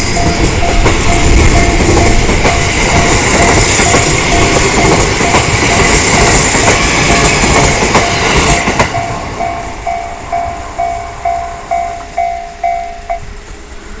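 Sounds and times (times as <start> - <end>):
train wheels clacking: 0.0 - 13.3
crossing warning bell ringing: 0.0 - 13.8.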